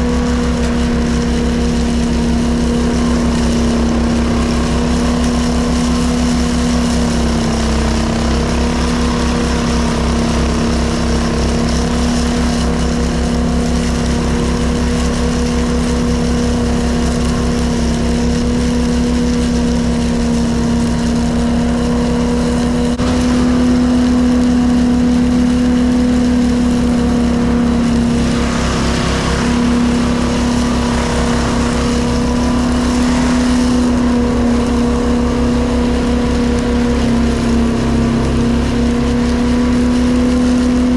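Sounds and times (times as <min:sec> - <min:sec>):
blower engine running: 0:00.0 - 0:40.9.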